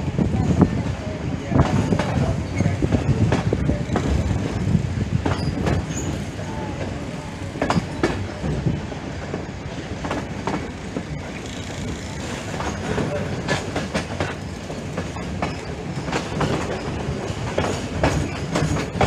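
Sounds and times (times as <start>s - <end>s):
train wheels rumbling on rails: 0.0s - 19.0s
wheels clacking over rail joints: 1.5s - 19.0s.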